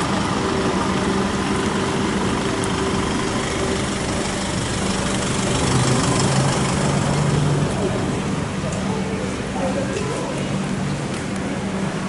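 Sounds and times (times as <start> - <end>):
outdoor traffic noise: 0.0 - 12.0
vehicle engine idling: 0.0 - 12.0.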